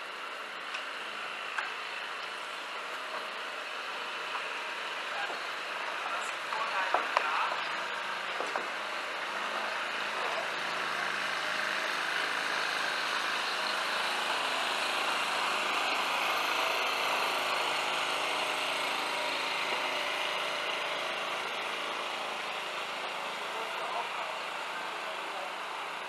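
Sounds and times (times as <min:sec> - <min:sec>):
small boat engine running: 0:00.0 - 0:26.0.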